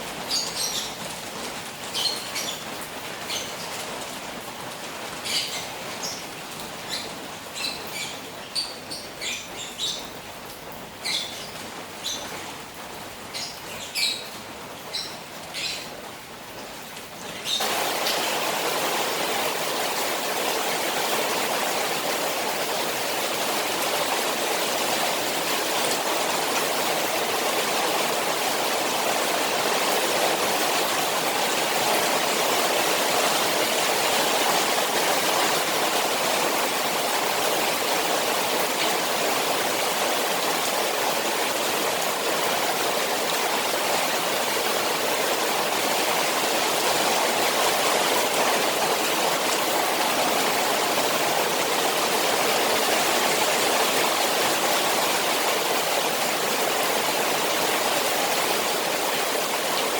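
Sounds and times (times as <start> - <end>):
rain falling on a pond: 0.0 - 59.9.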